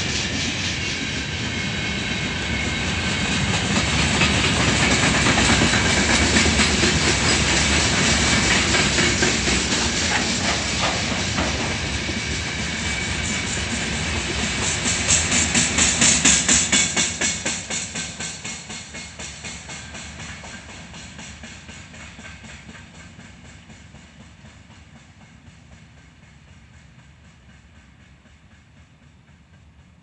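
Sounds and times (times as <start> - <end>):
train wheels clattering over rail joints: 0.0 - 30.0.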